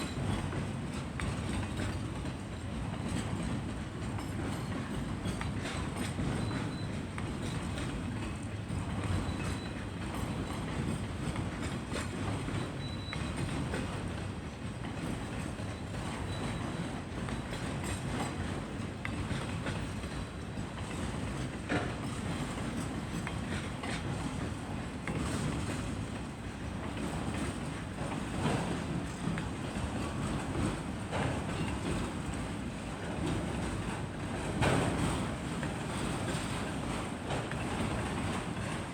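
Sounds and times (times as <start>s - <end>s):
freight train cars rumbling: 0.0s - 38.9s
wheels clicking over rail joints: 0.0s - 38.9s.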